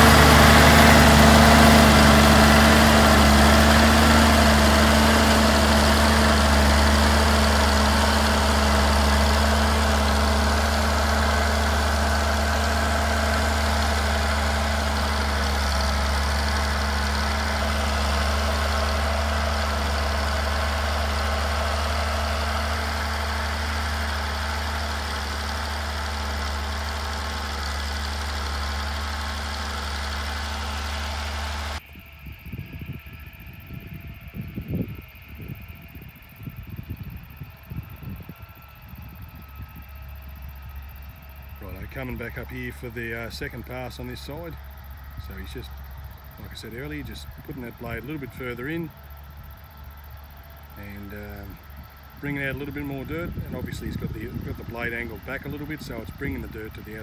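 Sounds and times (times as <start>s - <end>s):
motor grader engine running: 0.0s - 57.0s.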